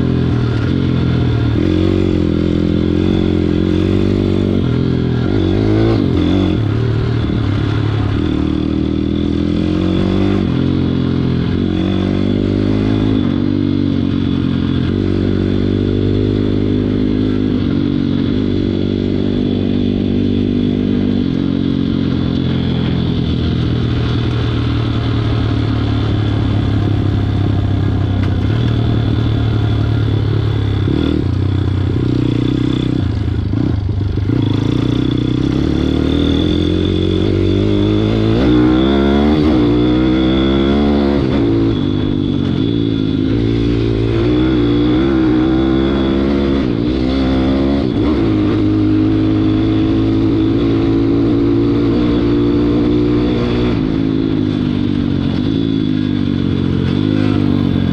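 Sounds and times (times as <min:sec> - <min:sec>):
pit bike engine revving: 0:00.0 - 0:57.9.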